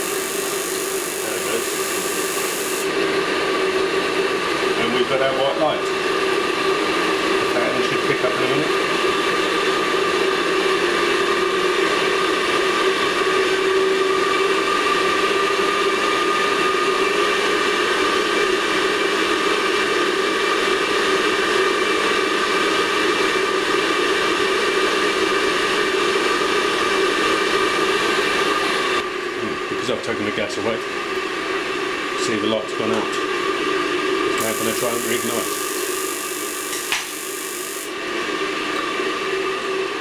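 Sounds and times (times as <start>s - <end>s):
boiler fan whirring: 0.0s - 40.0s.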